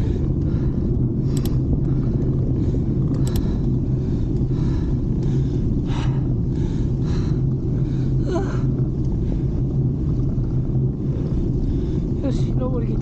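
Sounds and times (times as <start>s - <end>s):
bike tyres rolling on road: 0.0s - 13.0s
wind rumble on microphone: 0.0s - 13.0s.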